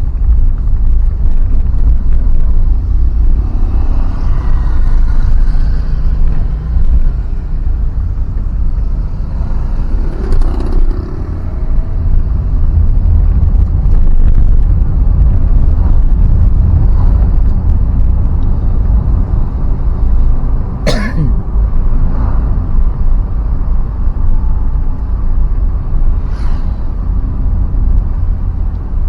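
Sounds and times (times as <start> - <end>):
vehicle rumbling along road: 0.0 - 29.0.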